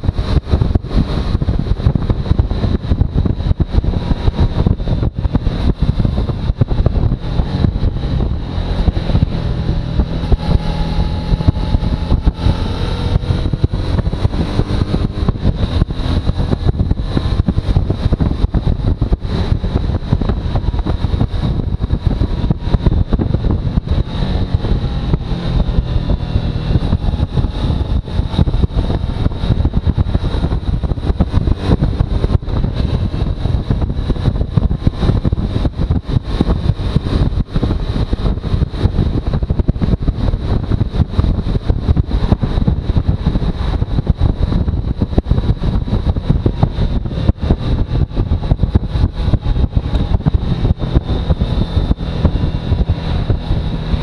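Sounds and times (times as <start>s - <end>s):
motorcycle engine rumble: 0.0s - 54.0s
wind buffeting microphone: 0.0s - 54.0s.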